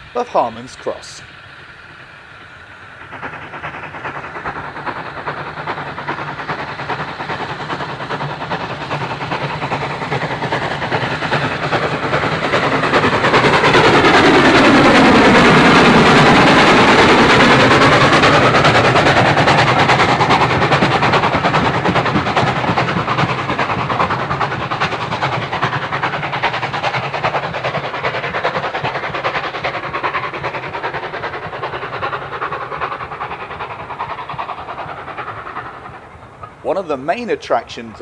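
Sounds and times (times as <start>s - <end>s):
steam locomotive exhaust beat: 0.0s - 38.0s
train rumbling on track: 0.0s - 38.0s.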